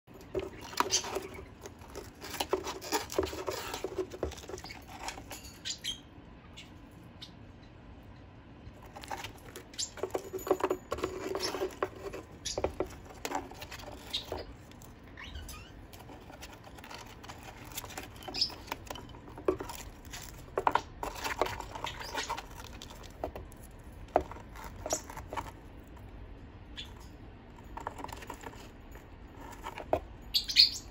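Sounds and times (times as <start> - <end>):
parrot chewing and crunching: 0.1 - 30.9.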